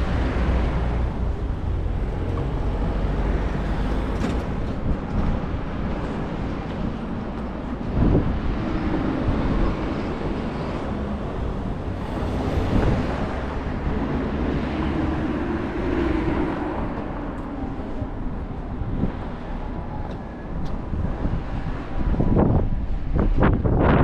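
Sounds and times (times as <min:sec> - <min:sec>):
traffic passing: 0:00.0 - 0:24.0
wind gusting on microphone: 0:00.0 - 0:24.0.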